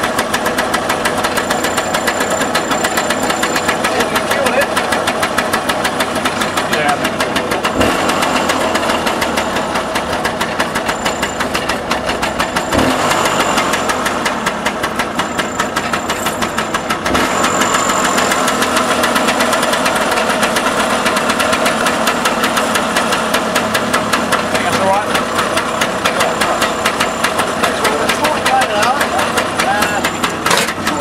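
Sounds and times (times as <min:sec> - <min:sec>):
scooter two-stroke engine running: 0:00.0 - 0:31.0.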